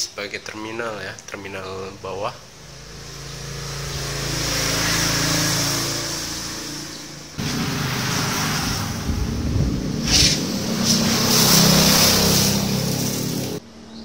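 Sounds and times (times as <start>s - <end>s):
rough engine rumble: 1.6s - 13.6s
vehicle engine passing by: 2.0s - 13.6s.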